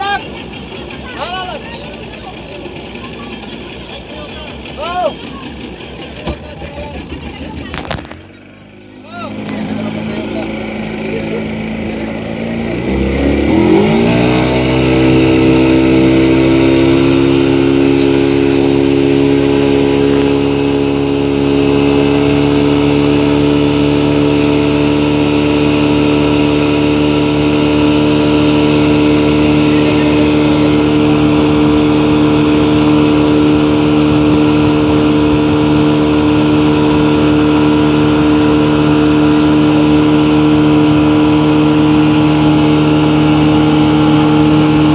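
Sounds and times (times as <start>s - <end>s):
motorboat engine revving: 0.0s - 44.9s.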